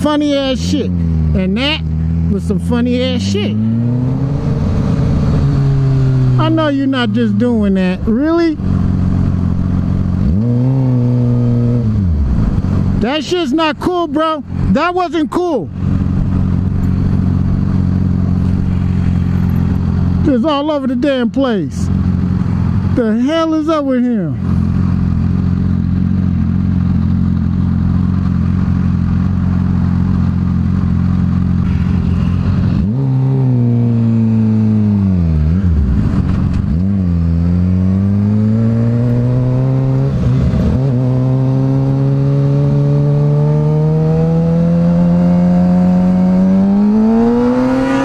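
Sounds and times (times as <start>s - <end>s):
motorcycle engine revving: 0.0s - 14.9s, 15.7s - 48.0s.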